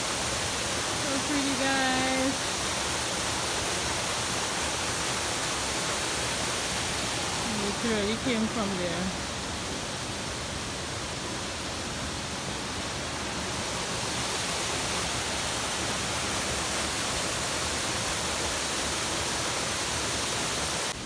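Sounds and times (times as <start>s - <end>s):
water rushing over rocks: 0.0s - 21.0s.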